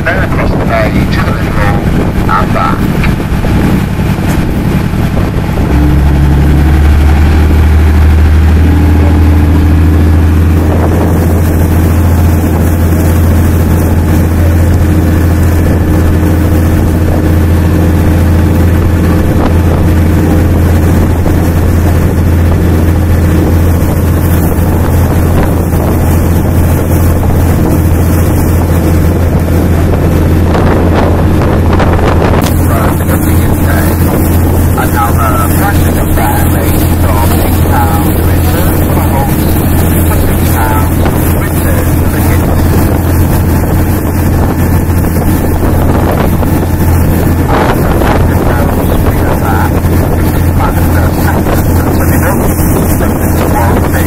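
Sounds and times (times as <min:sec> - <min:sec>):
boat engine running: 0:00.0 - 0:54.0
wind on microphone: 0:00.0 - 0:54.0.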